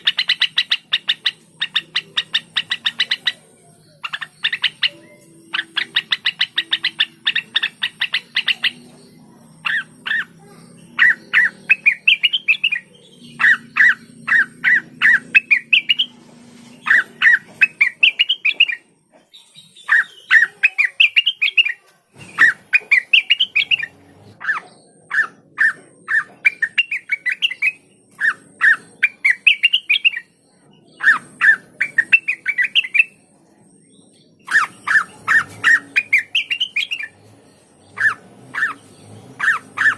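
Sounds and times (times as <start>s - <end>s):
bird chirping phrases: 0.0s - 39.9s.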